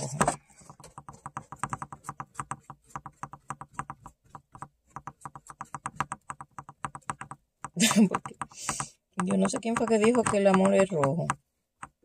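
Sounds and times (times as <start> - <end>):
paintbrush dabbing taps: 0.0 - 12.0.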